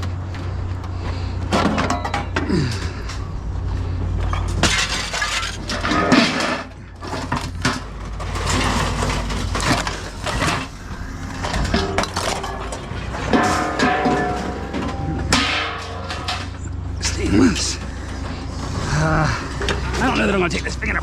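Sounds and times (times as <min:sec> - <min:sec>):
scrap metal clattering: 0:00.5 - 0:03.3, 0:04.2 - 0:21.0.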